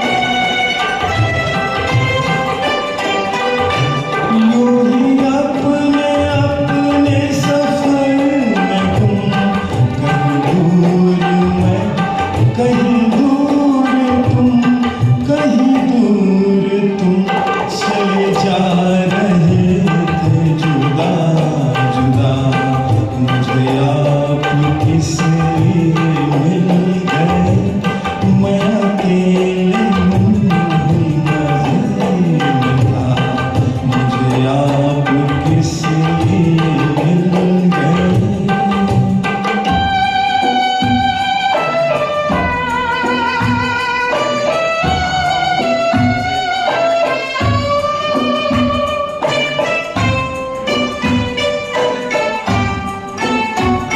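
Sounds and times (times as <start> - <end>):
tabla rhythm: 0.0 - 53.9.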